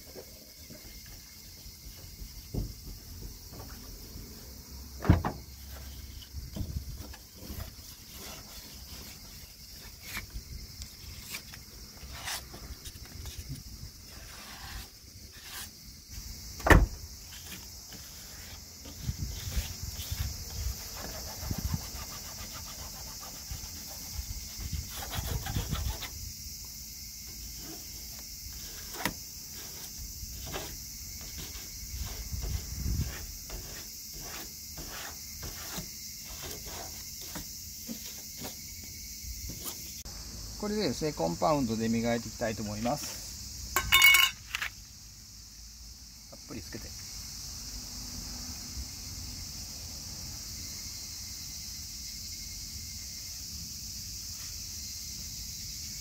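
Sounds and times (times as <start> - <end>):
high insect buzz: 0.0 - 56.0.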